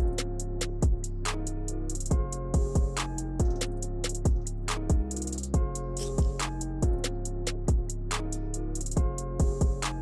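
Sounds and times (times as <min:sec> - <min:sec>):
trap beat: 0:00.0 - 0:10.0.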